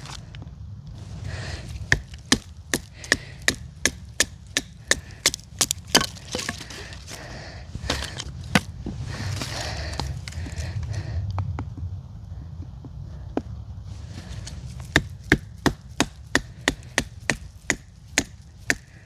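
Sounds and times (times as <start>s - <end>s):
wood chopping strokes: 1.0s - 10.8s, 13.4s - 19.0s.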